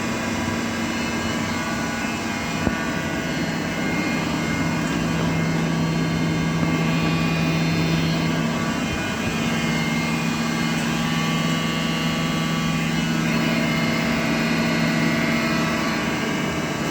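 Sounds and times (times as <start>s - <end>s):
grinding machine humming: 0.0s - 16.9s.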